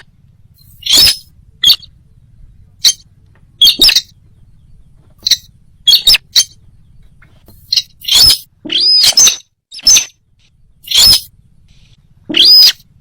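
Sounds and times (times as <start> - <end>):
sharp bird calls: 0.0 - 13.0.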